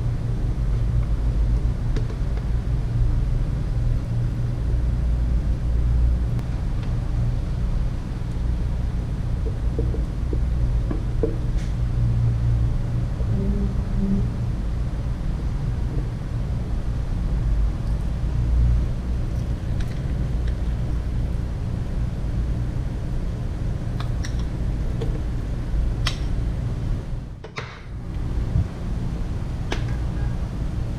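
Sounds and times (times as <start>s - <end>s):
low motor rumble: 0.0s - 30.9s.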